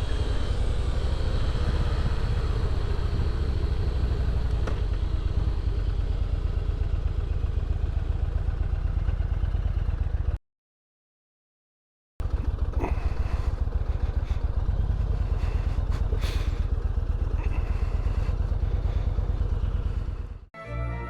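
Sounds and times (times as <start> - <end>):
motorcycle engine rumble: 0.0 - 10.4, 12.2 - 20.5.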